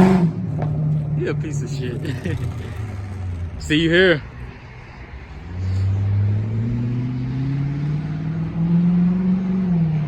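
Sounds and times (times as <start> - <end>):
car exhaust accelerating: 0.0 - 10.0.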